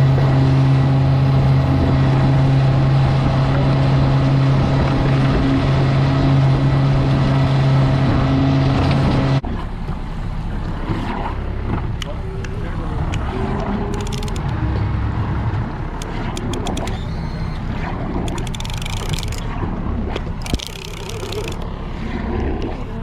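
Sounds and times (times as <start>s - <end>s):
boat motor running: 0.0s - 23.0s
water noise: 0.0s - 23.0s.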